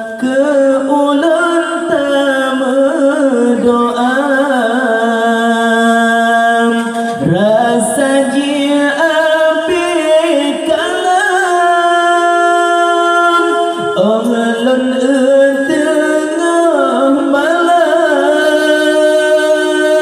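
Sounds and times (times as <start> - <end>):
vocal group singing in harmony: 0.0 - 20.0.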